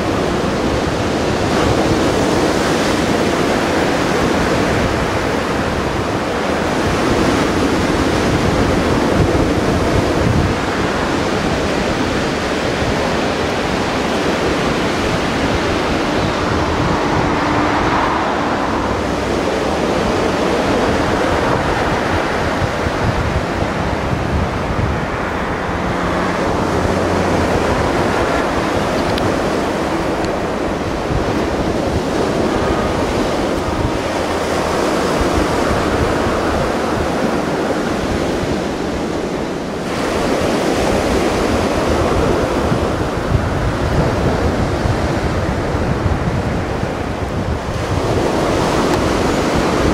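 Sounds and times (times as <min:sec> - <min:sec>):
waves washing in: 0:00.0 - 0:49.9.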